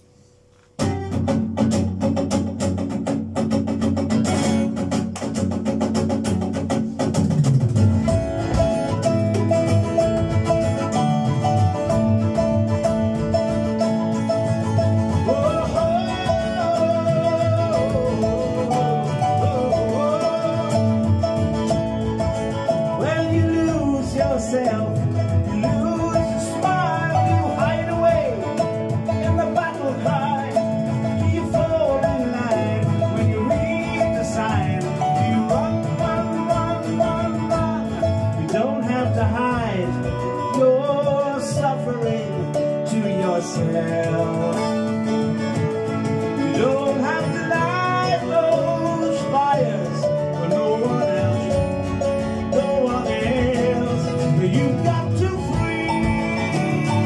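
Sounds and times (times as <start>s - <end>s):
strummed acoustic guitar: 0.0s - 57.0s
frame drum: 0.6s - 57.0s
flute melody: 7.9s - 57.0s.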